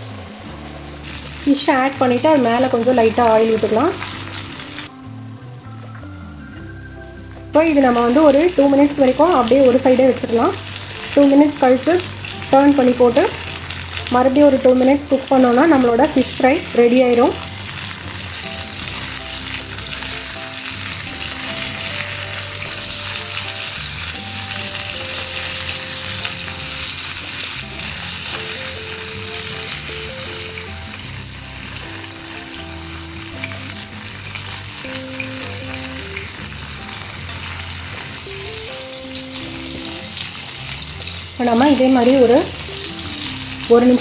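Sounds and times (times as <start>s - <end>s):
fish frying in hot oil: 0.0s - 44.0s.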